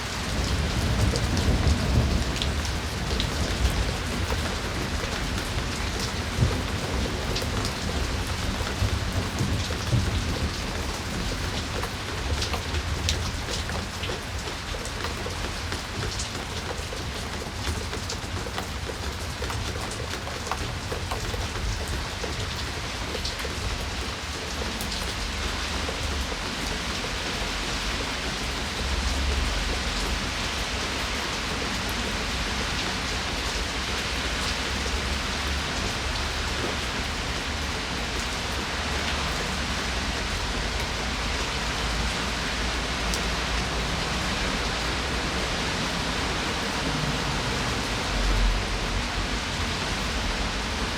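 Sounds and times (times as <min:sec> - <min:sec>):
raindrops tapping close by: 0:00.0 - 0:50.9
steady rain falling: 0:00.0 - 0:50.9.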